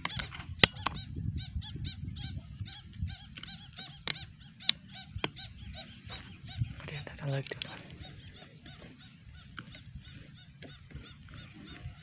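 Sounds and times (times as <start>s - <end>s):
waterhens calling: 0.0s - 12.0s.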